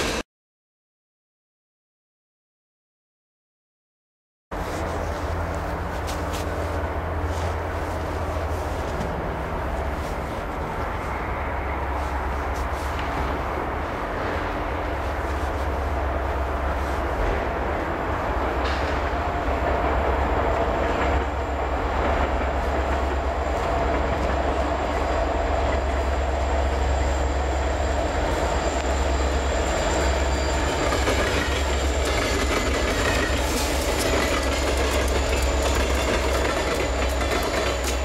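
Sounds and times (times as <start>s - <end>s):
freight train rumbling past: 0.0s - 0.2s, 4.5s - 38.0s.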